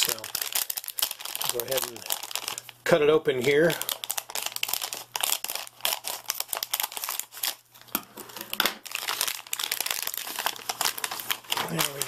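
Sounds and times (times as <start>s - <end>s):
plastic packaging crinkling and tearing: 0.0s - 12.0s.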